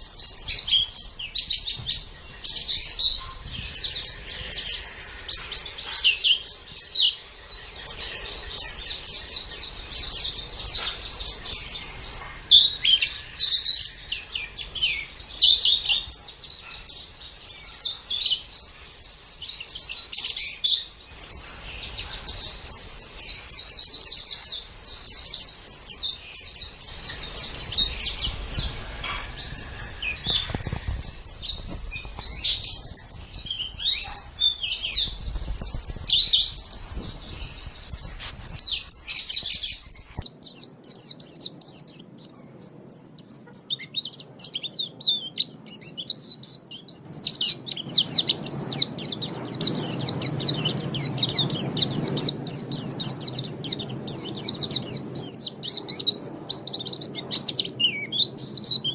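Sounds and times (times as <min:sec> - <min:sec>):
bird twittering song: 0:00.0 - 0:58.9.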